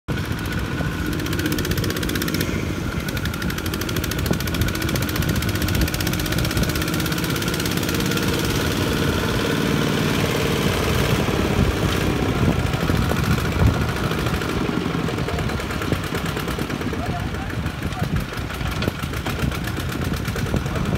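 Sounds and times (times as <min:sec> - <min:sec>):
diesel tractor engines running: 0:00.1 - 0:20.9.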